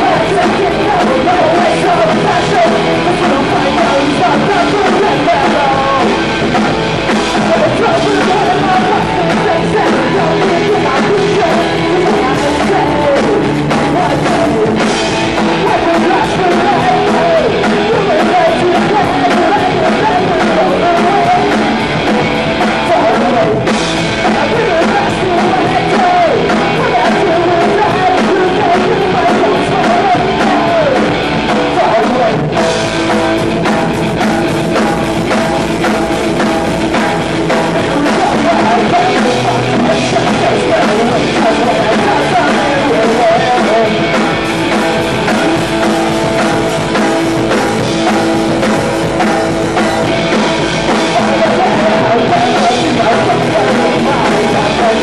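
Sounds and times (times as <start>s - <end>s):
drum kit: 0.0s - 55.0s
electric guitar: 0.0s - 55.0s
person singing: 0.0s - 55.0s.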